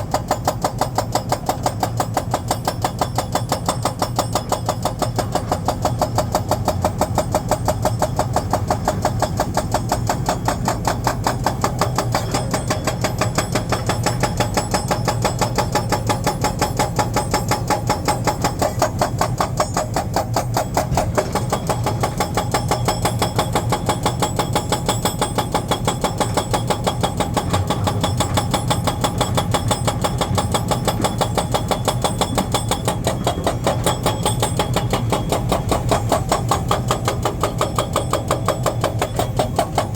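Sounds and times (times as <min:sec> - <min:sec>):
diesel engine throbbing: 0:05.0 - 0:24.4, 0:25.4 - 0:39.9.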